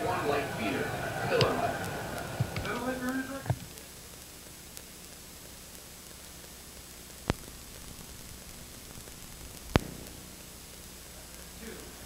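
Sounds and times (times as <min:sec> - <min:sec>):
videotape hiss and hum: 0:00.0 - 0:12.0.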